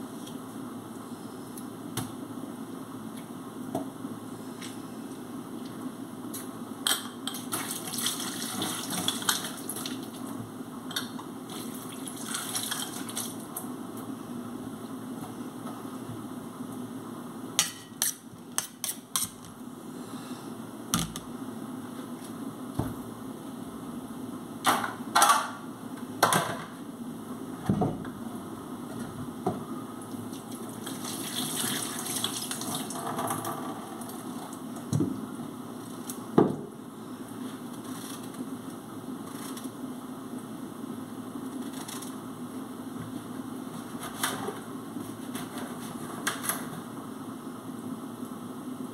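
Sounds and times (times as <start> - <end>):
low hum and hiss: 0.0 - 48.9.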